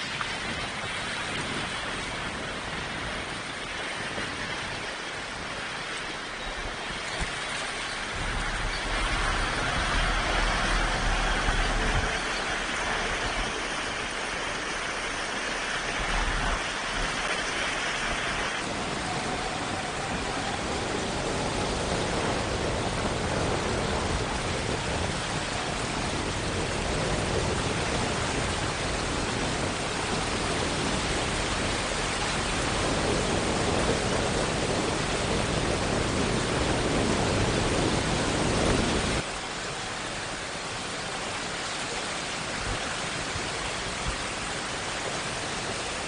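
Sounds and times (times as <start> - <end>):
water rushing: 0.0 - 46.0.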